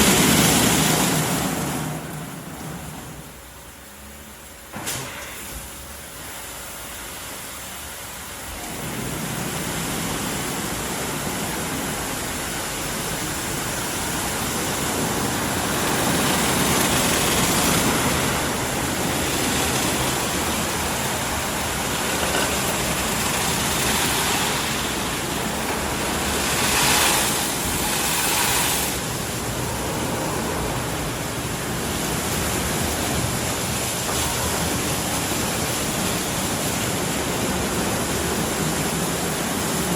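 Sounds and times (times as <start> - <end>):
car wash spraying water: 0.0 - 39.9.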